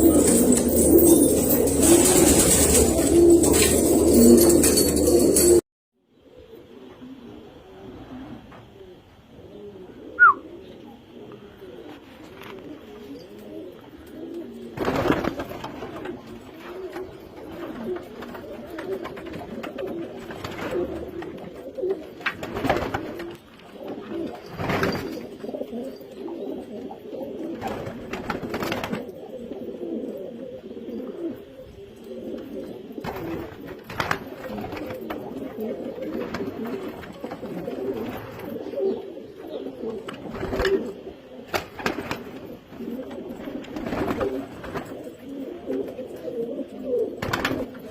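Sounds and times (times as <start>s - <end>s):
pigeons cooing: 0.0s - 5.6s, 6.2s - 47.9s.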